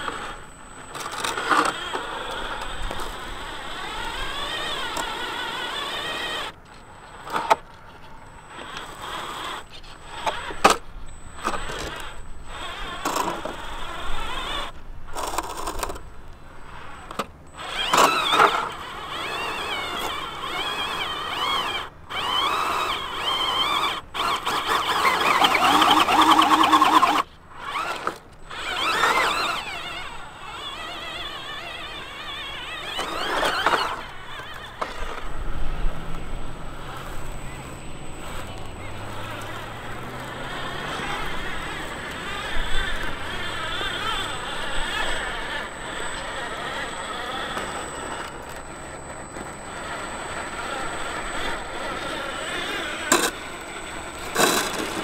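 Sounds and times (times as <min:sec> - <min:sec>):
small electric motor whining: 0:00.0 - 0:55.0.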